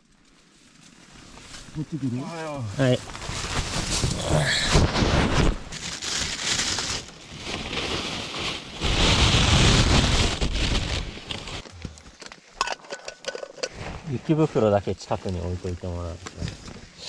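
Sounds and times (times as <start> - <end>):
rustling and handling noise: 0.0 - 17.0.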